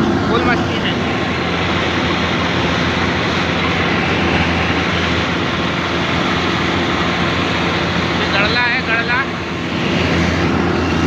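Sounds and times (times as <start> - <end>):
combine harvester engine drone: 0.0 - 11.0
harvester machinery noise: 0.0 - 11.0.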